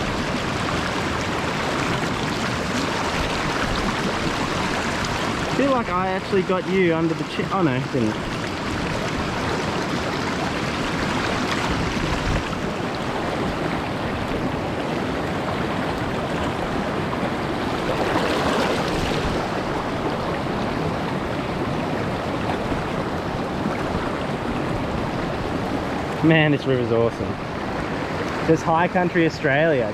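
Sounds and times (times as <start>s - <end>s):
stream flowing over rocks: 0.0s - 29.9s.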